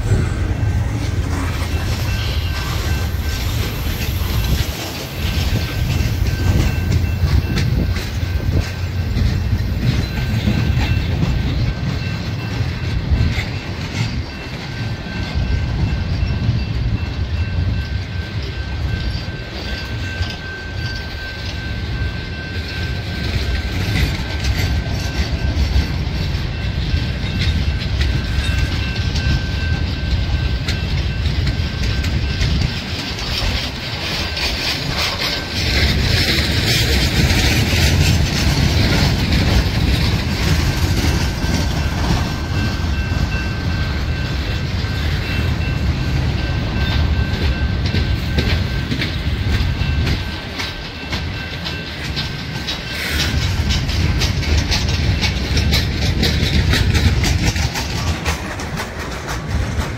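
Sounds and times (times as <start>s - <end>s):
train rumbling past: 0.0s - 59.9s
wheels clicking over rail joints: 0.0s - 59.9s.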